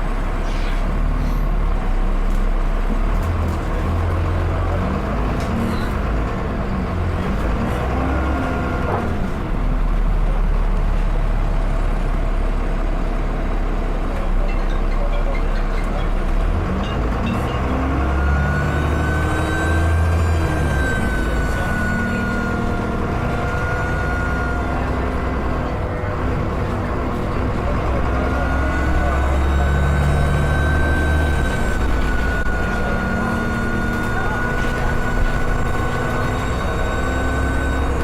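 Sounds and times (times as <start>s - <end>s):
bus diesel engine: 0.0s - 38.0s.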